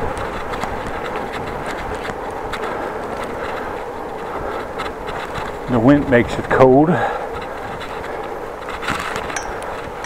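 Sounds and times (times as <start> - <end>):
bicycle tyres and wind rumble: 0.0 - 10.0
bike drivetrain ticking: 0.0 - 10.0.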